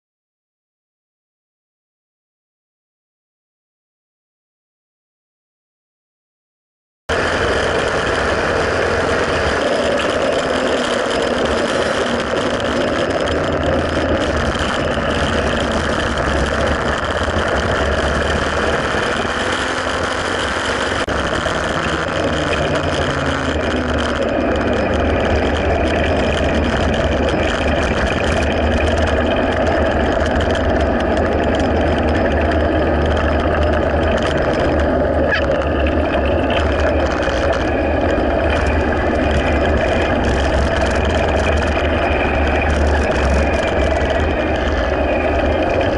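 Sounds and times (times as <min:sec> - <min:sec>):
motorcycle engine running: 0:07.1 - 0:45.9.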